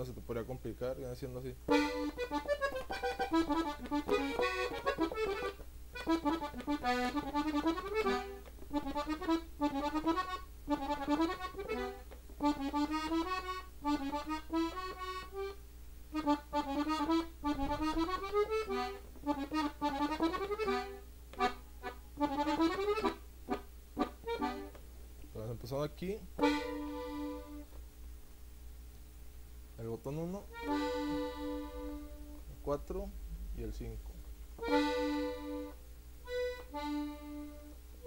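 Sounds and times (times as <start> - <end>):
button accordion melody: 1.7 - 24.8, 26.4 - 27.8, 30.5 - 33.8, 34.6 - 38.0.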